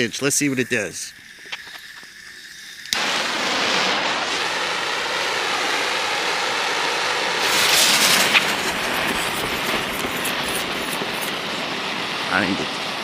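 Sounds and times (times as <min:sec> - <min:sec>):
fuse burning with hiss: 0:00.0 - 0:13.0
sharp crackle: 0:01.0 - 0:12.3.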